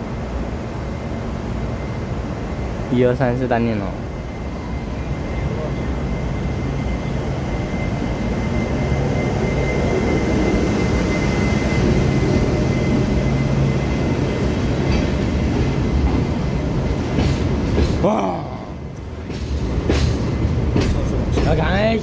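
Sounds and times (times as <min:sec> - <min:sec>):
electric locomotive humming: 0:00.0 - 0:22.0
wheels rumbling on rail: 0:00.0 - 0:22.0.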